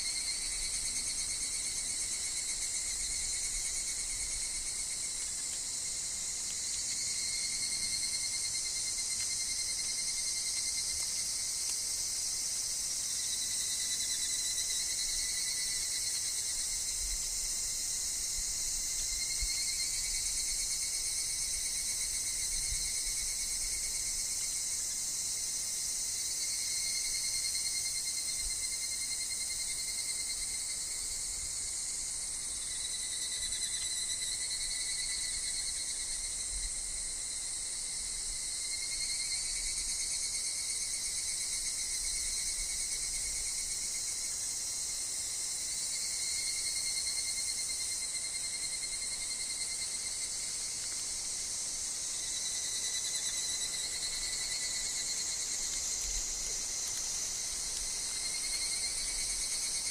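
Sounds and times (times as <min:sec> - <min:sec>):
insect chorus ringing: 0:00.0 - 0:59.9.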